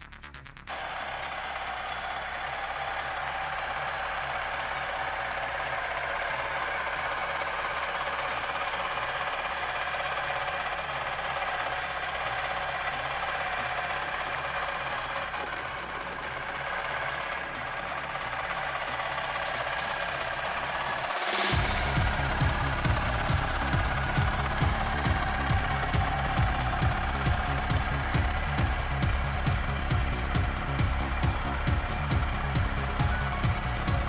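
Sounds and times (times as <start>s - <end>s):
motorcycle engine idling: 0.7s - 34.0s.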